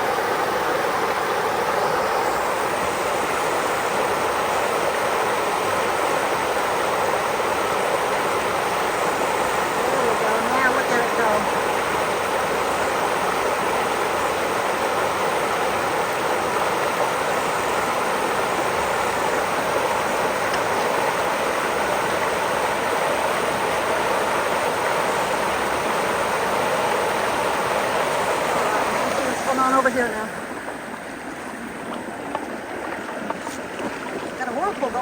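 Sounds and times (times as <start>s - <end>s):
floodwater rushing through culvert: 0.0s - 35.0s.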